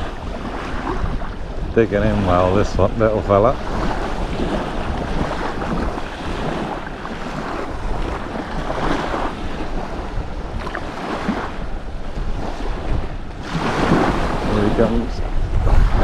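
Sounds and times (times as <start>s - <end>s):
sea washing: 0.0s - 16.0s
wind buffeting microphone: 0.0s - 16.0s.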